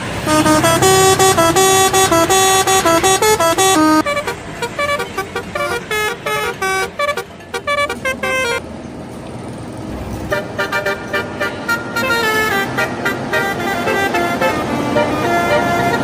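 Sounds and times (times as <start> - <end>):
bus horn playing musical notes: 0.0 - 8.6, 10.3 - 16.0
road noise: 0.0 - 16.0.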